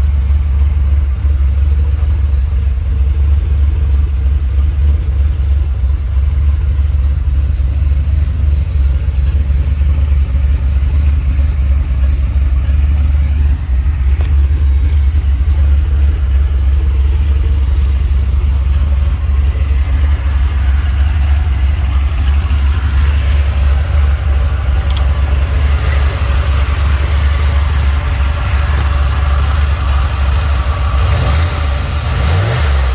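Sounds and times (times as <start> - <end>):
deep engine idling: 0.0 - 32.9.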